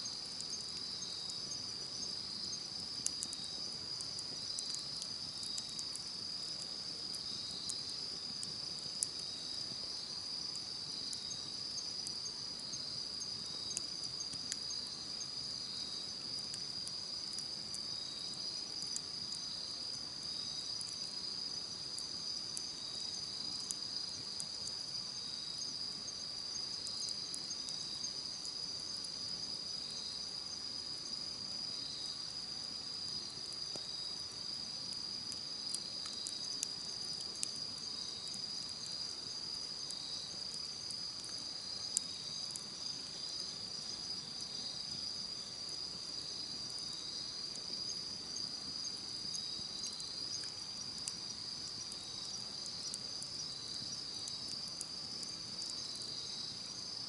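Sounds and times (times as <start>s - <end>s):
insects trilling: 0.0s - 57.0s
campfire crackling: 0.1s - 57.0s.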